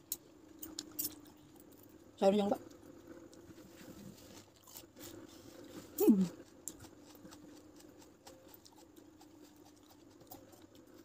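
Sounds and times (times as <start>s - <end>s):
chewing: 0.6s - 2.0s, 2.6s - 11.0s.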